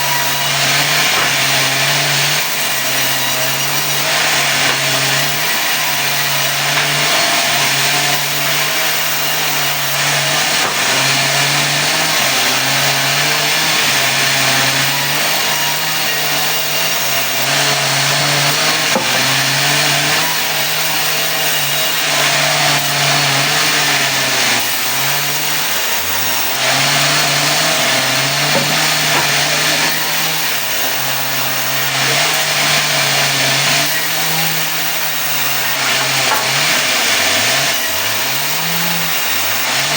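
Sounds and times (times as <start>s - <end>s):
saw blade cutting wood: 0.0s - 39.9s.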